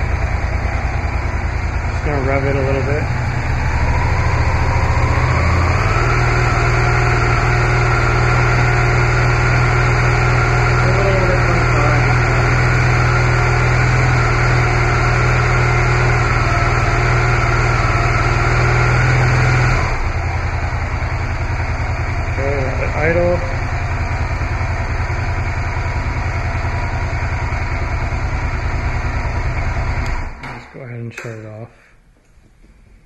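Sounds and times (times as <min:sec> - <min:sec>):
motorcycle engine idling: 0:00.0 - 0:30.6.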